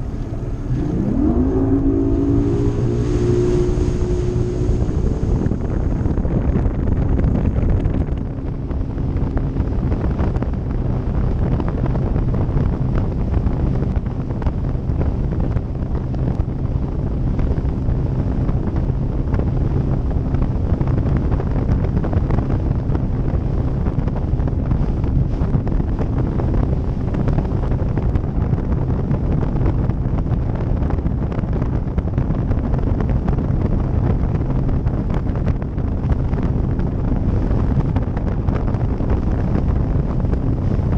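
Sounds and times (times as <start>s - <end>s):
outboard motor running: 0.0s - 40.9s
wind buffeting microphone: 0.0s - 40.9s.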